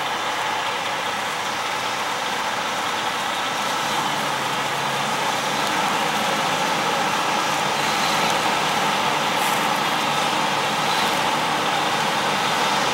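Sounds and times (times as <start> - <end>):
tractor engine drone: 0.0 - 12.9.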